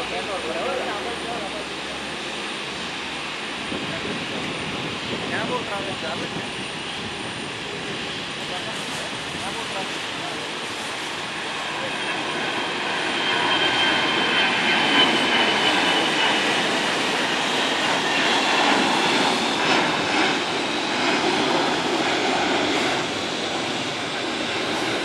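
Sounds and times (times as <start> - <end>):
high engine whine: 0.0 - 25.0
jet engines rushing: 0.0 - 25.0.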